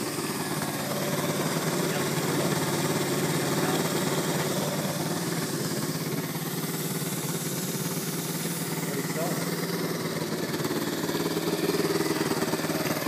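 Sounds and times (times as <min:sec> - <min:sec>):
motorbike engine idling: 0:00.0 - 0:13.0.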